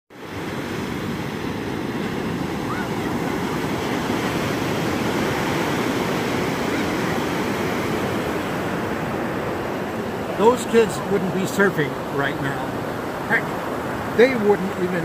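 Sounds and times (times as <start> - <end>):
small waves breaking: 0.1 - 15.0.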